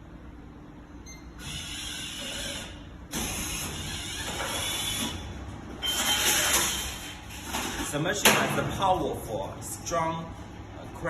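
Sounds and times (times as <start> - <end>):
vending machine mechanism running: 1.0 - 11.0.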